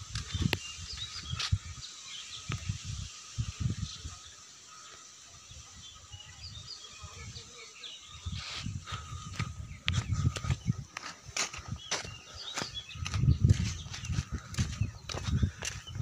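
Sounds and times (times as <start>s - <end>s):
bird chirps: 0.0s - 16.0s.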